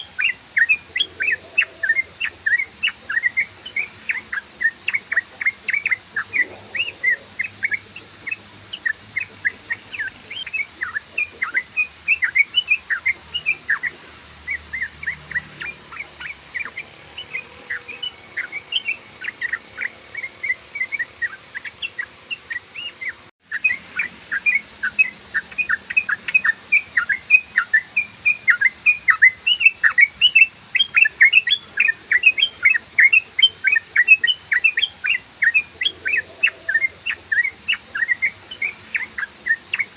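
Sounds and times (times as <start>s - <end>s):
bird singing bubbly chirps: 0.0s - 39.9s.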